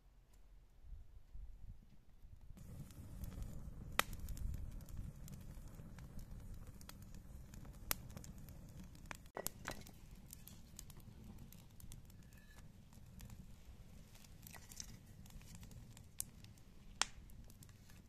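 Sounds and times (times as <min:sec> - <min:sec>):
twigs burning crackling: 0:02.5 - 0:18.0
sharp fire pops: 0:02.6 - 0:18.0.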